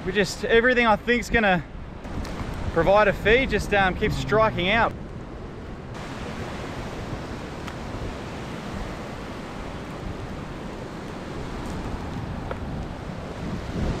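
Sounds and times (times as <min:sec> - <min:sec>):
wind rushing: 0:01.7 - 0:14.0
small waves washing on shore: 0:02.0 - 0:14.0.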